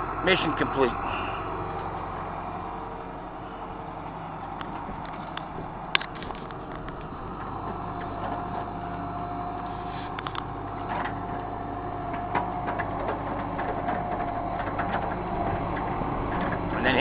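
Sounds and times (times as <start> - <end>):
excavator diesel engine running: 0.0 - 17.0
steady whine: 0.0 - 17.0.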